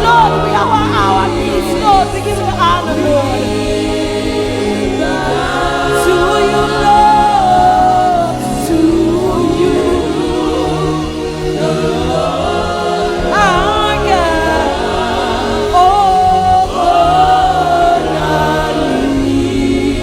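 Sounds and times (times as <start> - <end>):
keyboard and bass: 0.0 - 20.0
singers: 0.0 - 20.0.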